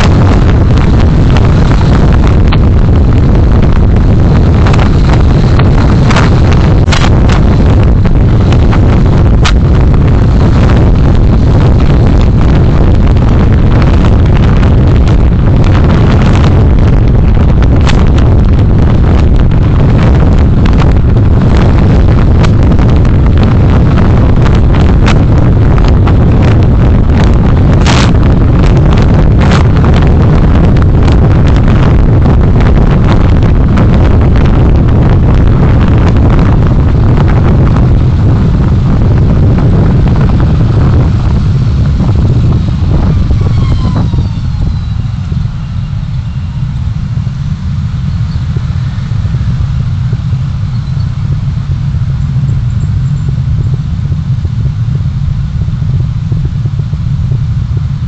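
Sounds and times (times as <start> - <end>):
crackles: 0.0 - 58.0
faint falling whine: 0.0 - 58.0
vehicle road and engine rumble: 0.0 - 58.0
wind buffeting microphone: 0.0 - 58.0.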